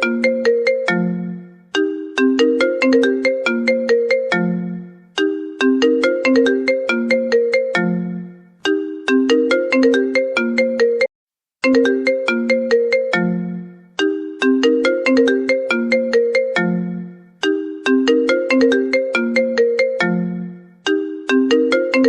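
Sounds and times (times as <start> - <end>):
marimba ringtone: 0.0 - 22.0.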